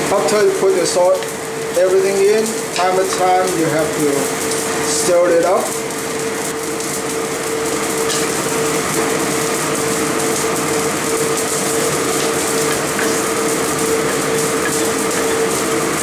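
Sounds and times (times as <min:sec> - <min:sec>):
stew boiling in pot: 0:00.0 - 0:16.0.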